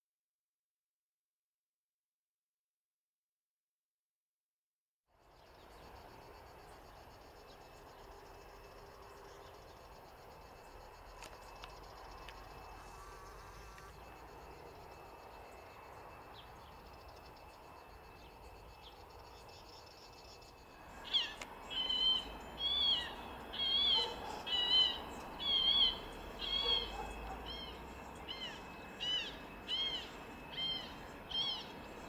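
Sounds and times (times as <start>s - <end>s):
insects chirring: 5.1s - 32.0s
distant jet engines rumbling: 5.4s - 32.0s.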